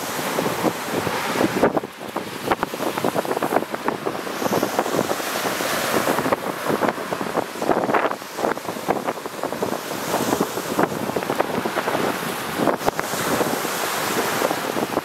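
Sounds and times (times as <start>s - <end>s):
waves washing over pebbles: 0.0s - 15.0s
wind buffeting microphone: 0.0s - 15.0s.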